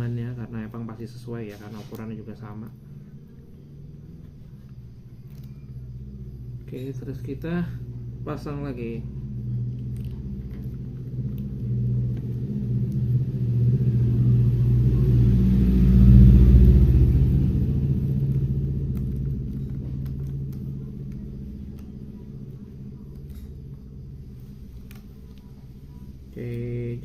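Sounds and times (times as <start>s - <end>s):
passing vehicle engine rumble: 0.0s - 27.0s.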